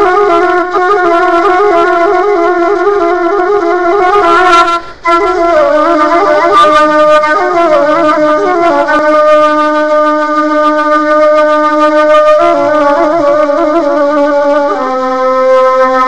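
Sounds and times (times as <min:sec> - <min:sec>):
slow solo woodwind melody: 0:00.0 - 0:16.0.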